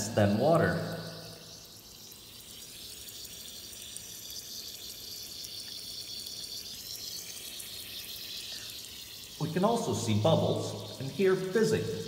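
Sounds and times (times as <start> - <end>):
lithium fizzing on water: 0.0 - 12.0.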